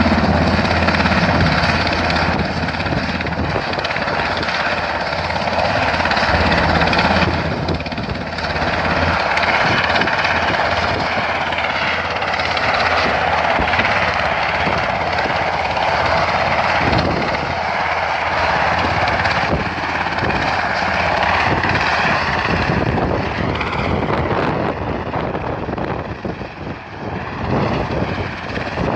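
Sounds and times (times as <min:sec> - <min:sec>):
helicopter engines and rotor: 0:00.0 - 0:28.9.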